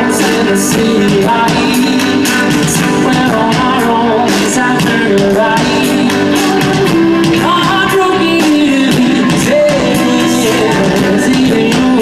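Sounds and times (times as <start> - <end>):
drums: 0.0 - 12.0
electric guitars: 0.0 - 12.0
lead vocal singing: 0.0 - 12.0.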